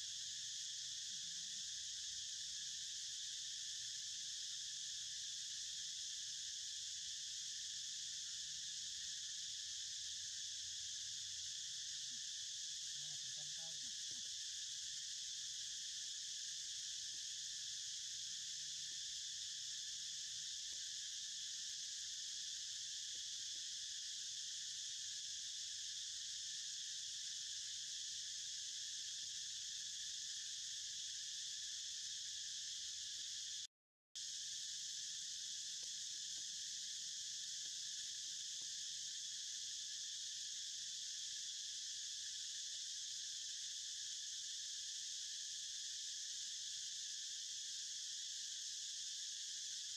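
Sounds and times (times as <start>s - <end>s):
high-pitched insect drone: 0.0s - 49.9s.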